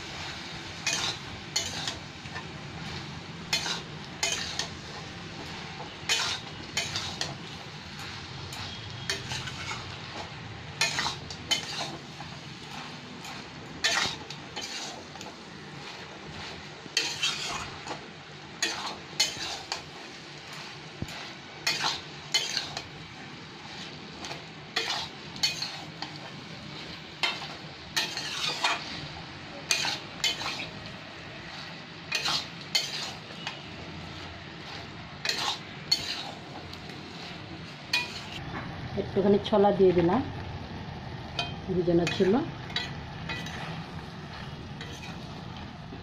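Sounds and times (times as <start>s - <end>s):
metal spatula scraping a pan: 0.0s - 18.0s, 18.6s - 38.4s, 41.4s - 45.6s
frying sizzle: 0.0s - 46.0s.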